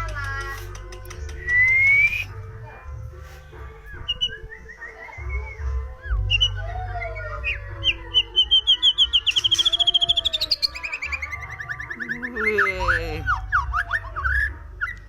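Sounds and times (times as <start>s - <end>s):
bird singing whistled notes: 1.0s - 2.4s, 3.9s - 15.0s.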